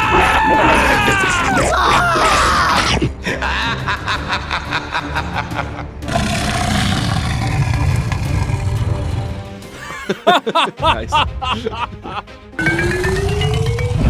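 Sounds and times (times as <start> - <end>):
pulsing background music: 0.0 - 14.0.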